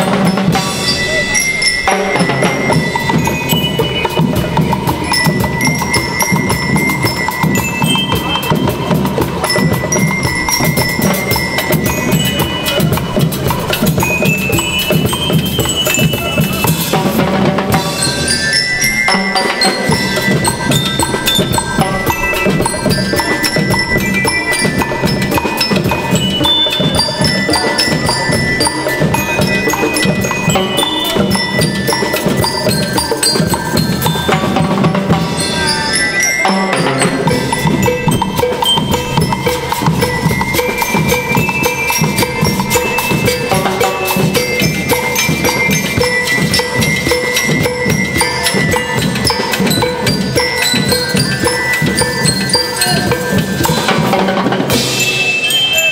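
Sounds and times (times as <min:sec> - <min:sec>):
bell lyres melody: 0:00.0 - 0:55.9
drum beats: 0:00.0 - 0:55.9.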